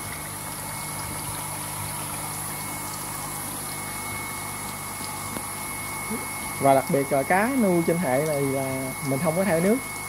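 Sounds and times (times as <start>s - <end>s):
bubbling running water: 0.0s - 10.0s
pump hum: 0.0s - 10.0s.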